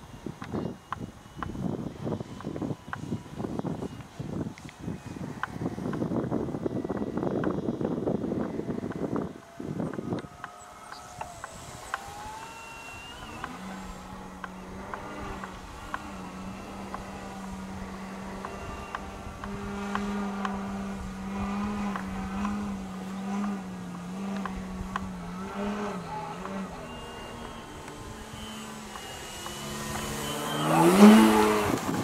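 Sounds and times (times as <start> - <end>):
model plane electric motor whine: 0.0 - 32.0.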